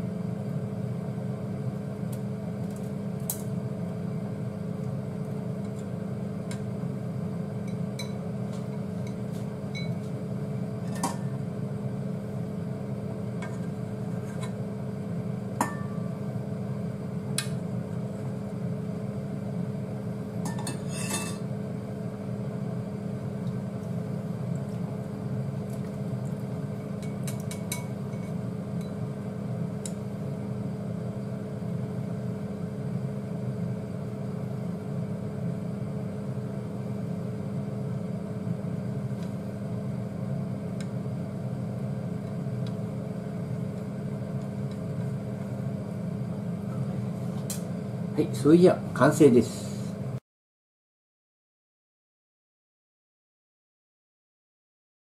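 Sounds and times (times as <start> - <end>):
low mechanical hum: 0.0 - 50.2.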